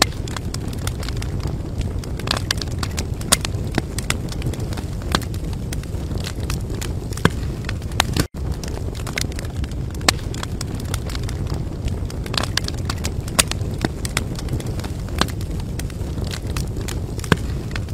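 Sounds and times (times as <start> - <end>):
crackling fire: 0.0 - 17.9.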